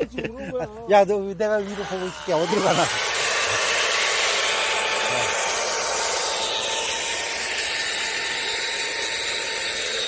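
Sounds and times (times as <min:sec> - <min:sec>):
chainsaw cutting wood: 0:01.6 - 0:10.0.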